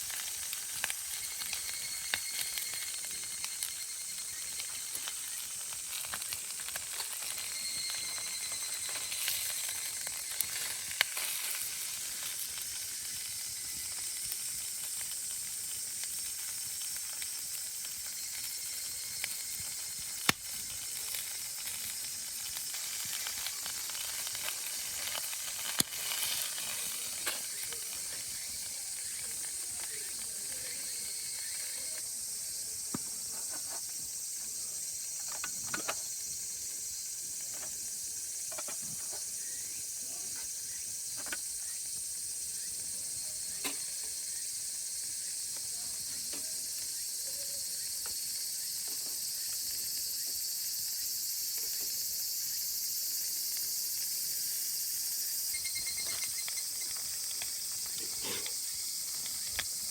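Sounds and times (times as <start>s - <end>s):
cicadas droning: 0.0s - 59.9s.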